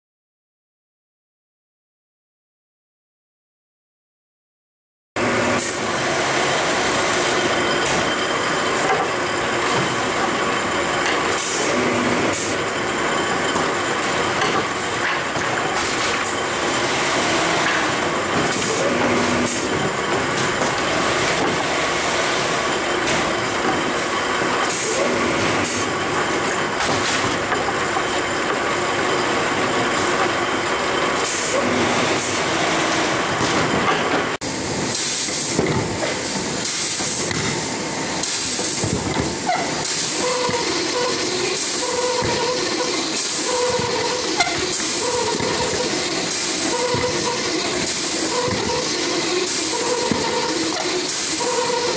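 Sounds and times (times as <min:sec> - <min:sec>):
grinding machine running: 0:05.2 - 0:35.0, 0:35.9 - 0:51.9.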